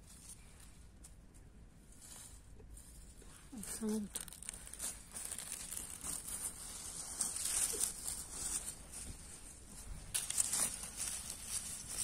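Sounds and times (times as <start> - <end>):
leaves rustling and crinkling: 0.0 - 12.0.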